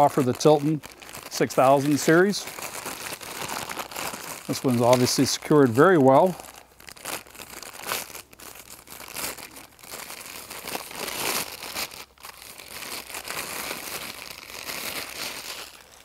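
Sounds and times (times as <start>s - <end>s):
packaging wrap crinkling: 0.0s - 16.0s.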